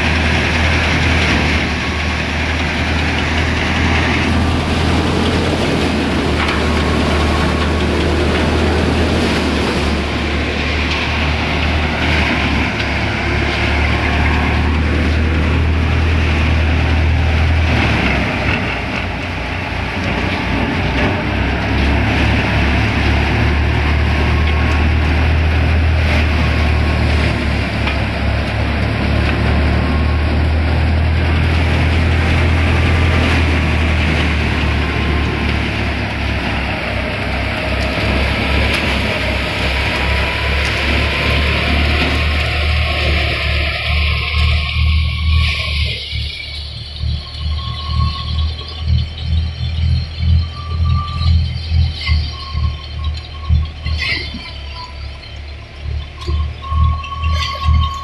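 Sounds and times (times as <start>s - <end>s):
thresher machine drone: 0.0s - 58.0s.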